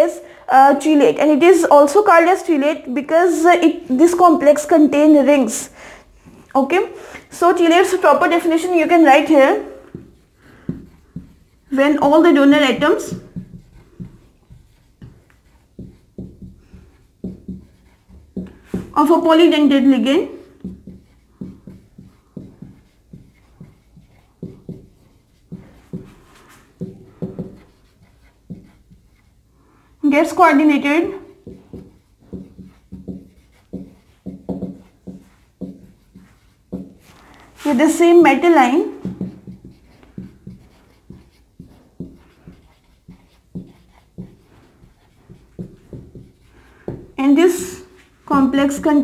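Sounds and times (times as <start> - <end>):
marker squeaking on whiteboard: 7.3 - 29.4, 30.2 - 49.0.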